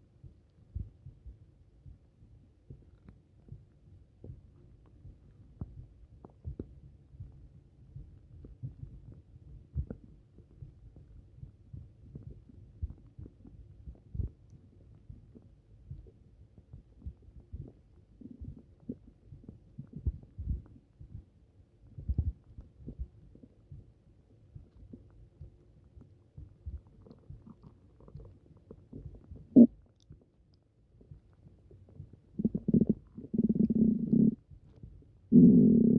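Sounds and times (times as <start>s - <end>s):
stomach rumbling and gurgling: 0.0s - 35.9s.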